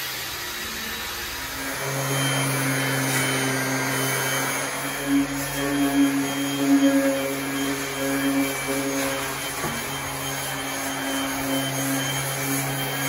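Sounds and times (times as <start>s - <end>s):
electric sander brush humming: 0.2s - 13.0s.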